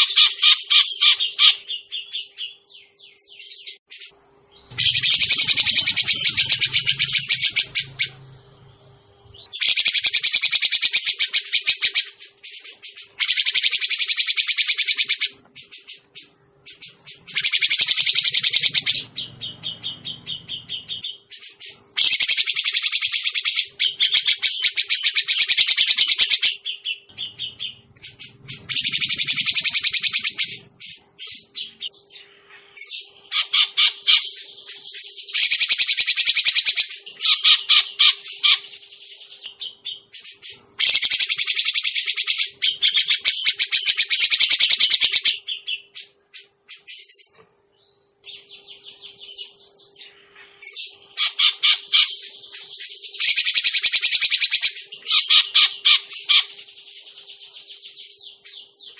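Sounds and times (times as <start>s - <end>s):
bird chattering calls: 0.0s - 2.6s, 4.0s - 8.4s, 9.3s - 16.1s, 16.7s - 38.8s, 39.5s - 47.2s, 49.9s - 56.7s.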